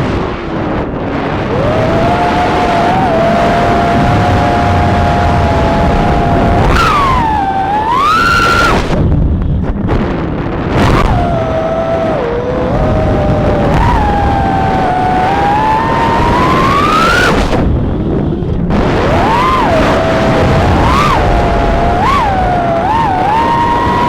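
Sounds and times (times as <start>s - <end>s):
rumbling wind noise: 0.0s - 24.0s
drone propellers whining: 0.8s - 24.0s.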